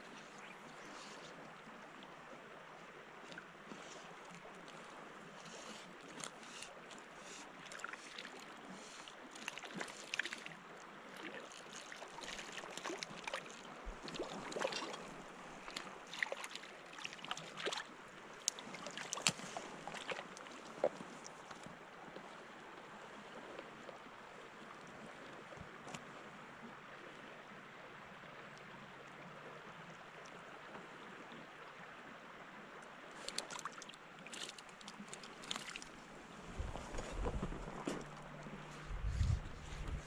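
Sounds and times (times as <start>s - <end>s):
river water gurgling: 0.0s - 40.0s
water splashes and trickles: 0.0s - 40.0s.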